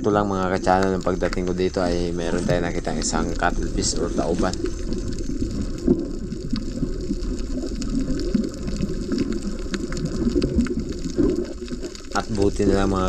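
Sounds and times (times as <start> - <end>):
underwater bubbling and sloshing: 0.0 - 13.0
small underwater clicks: 0.2 - 13.0.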